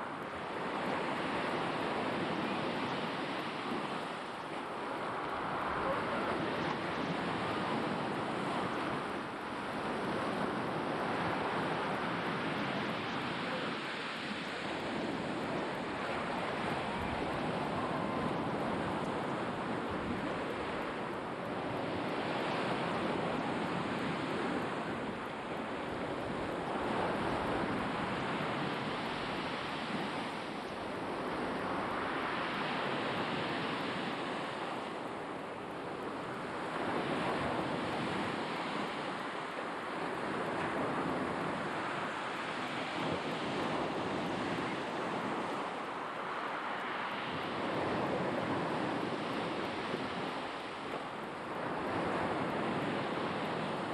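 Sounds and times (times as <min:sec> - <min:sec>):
waves breaking on the shore: 0:00.0 - 0:53.9.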